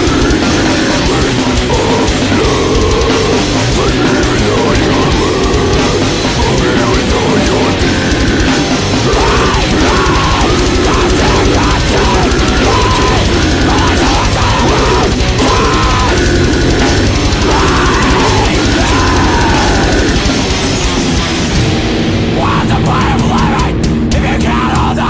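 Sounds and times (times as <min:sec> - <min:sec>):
heavy rock band playing: 0:00.0 - 0:25.0.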